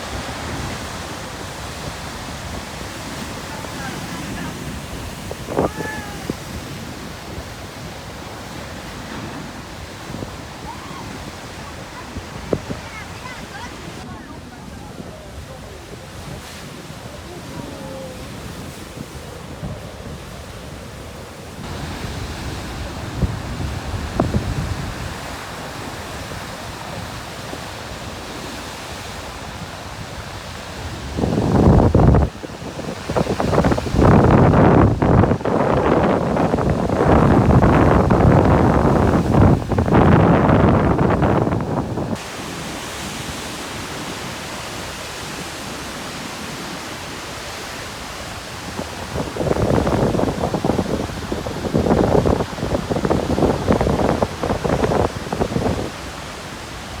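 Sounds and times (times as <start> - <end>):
hiss of surf: 0.0 - 57.0
waves breaking on rocky shore: 0.0 - 57.0
wind: 0.0 - 57.0.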